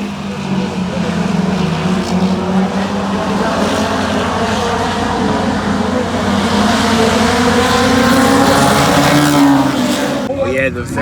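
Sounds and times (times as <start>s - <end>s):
race car engines: 0.0s - 10.4s.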